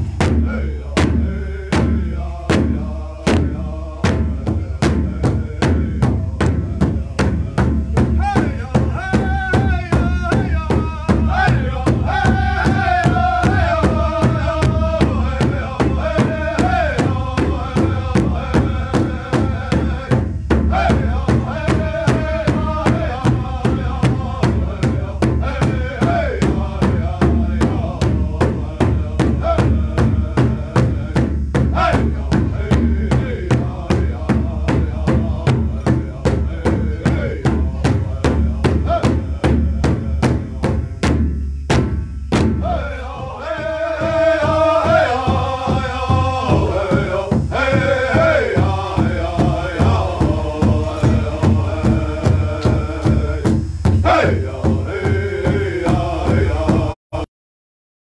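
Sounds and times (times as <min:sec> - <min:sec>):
men chanting together: 0:00.0 - 0:41.3, 0:42.4 - 0:57.3
large drum steady beat: 0:00.0 - 0:57.3.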